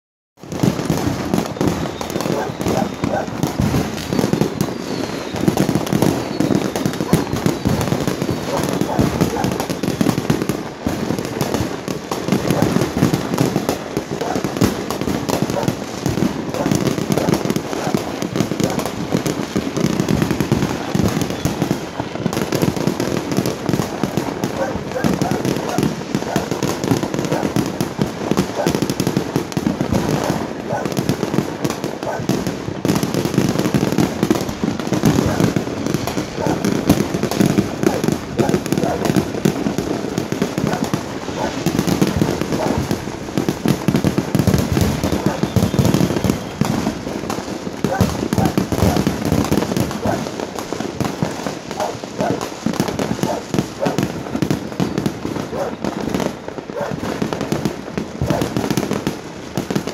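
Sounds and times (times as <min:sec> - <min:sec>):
fireworks and firecrackers banging: 0:00.4 - 0:59.9.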